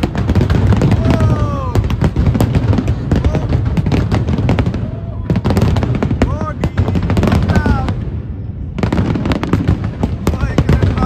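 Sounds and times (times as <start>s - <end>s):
fireworks cracks and bangs: 0.0s - 11.0s
low fireworks booms: 0.0s - 11.0s.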